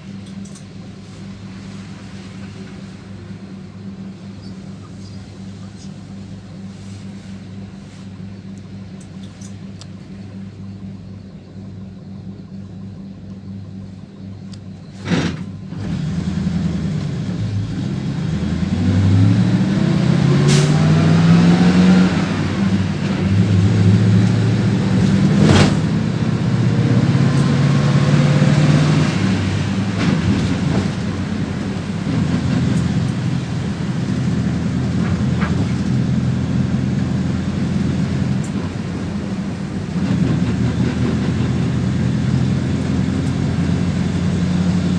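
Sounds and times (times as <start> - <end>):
bus engine accelerating: 0.0 - 44.9
bus engine idling: 0.0 - 44.9.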